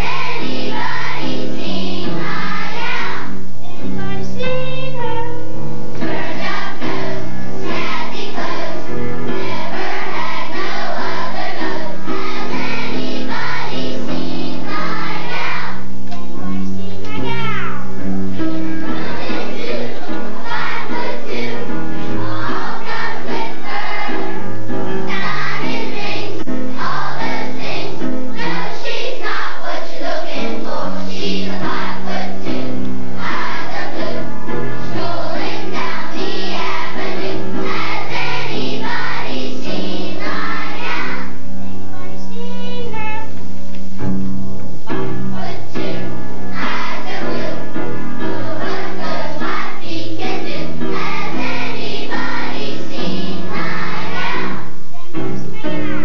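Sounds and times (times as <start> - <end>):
children's choir singing: 0.0 - 17.1, 17.8 - 43.3, 44.8 - 56.0
instrumental accompaniment: 0.0 - 56.0.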